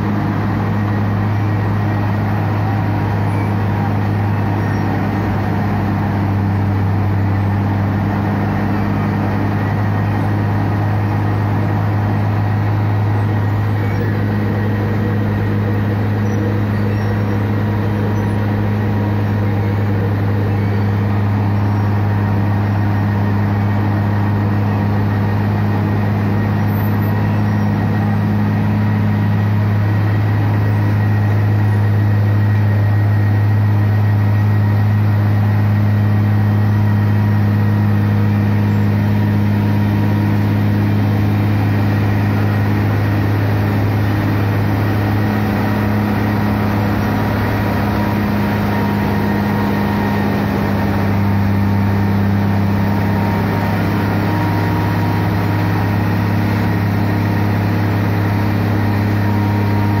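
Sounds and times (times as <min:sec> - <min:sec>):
diesel engine droning: 0:00.0 - 1:00.0.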